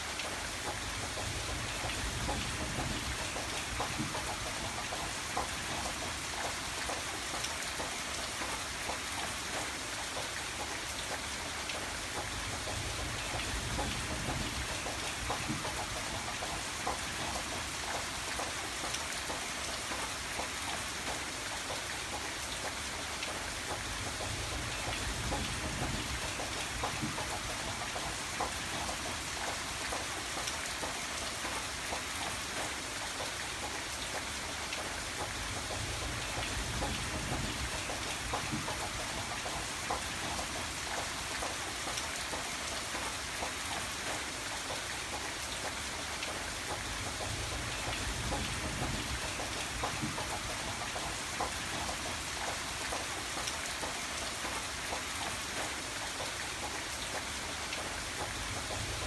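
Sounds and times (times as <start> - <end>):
rain drops hitting: 0.0 - 59.0.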